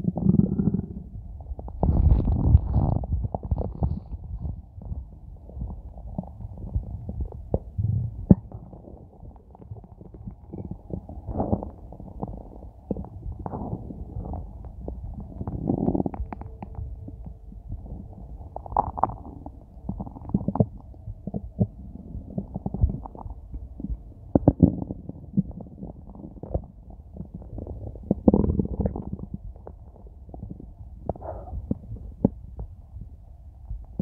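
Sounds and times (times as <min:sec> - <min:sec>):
stomach growling and gurgling: 0:00.0 - 0:34.0.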